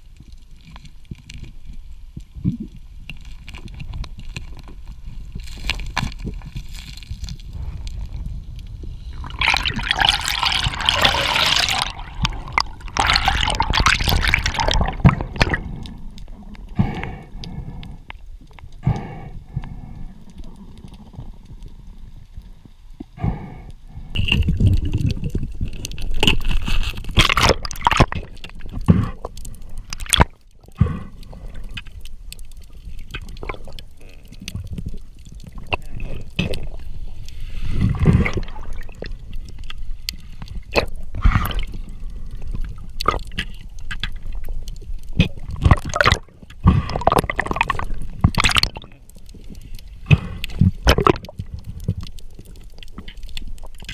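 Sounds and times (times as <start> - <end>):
underwater bubbling and rushing water: 0.0 - 53.9.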